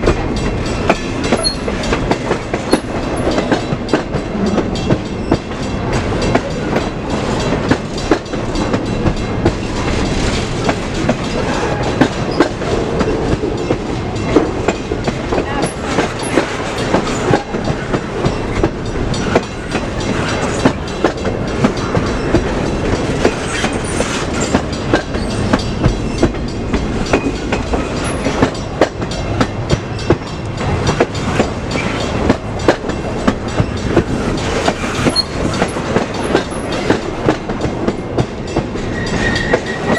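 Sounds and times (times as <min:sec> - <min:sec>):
train wheels clacking: 0:00.0 - 0:39.9.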